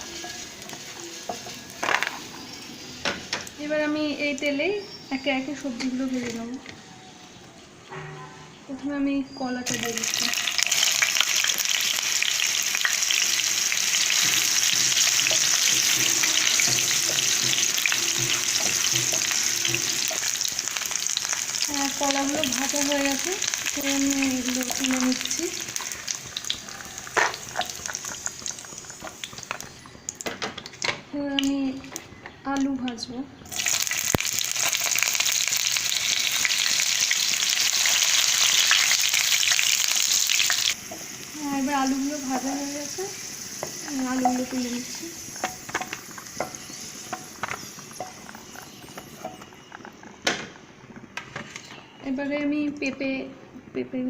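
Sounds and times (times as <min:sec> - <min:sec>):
banana frying in oil: 0:00.0 - 0:04.6, 0:09.7 - 0:31.8, 0:33.5 - 0:50.2.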